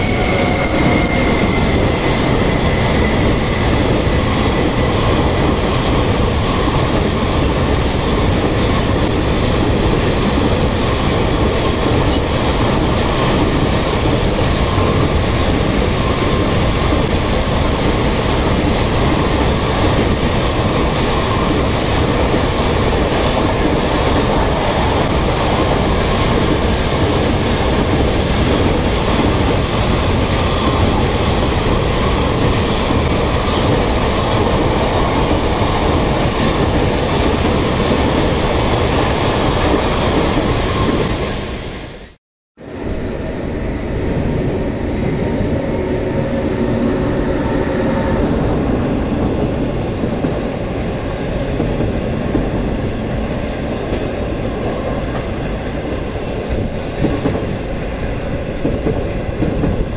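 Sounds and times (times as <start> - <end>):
steel wheels rumbling on rails: 0.0 - 59.9.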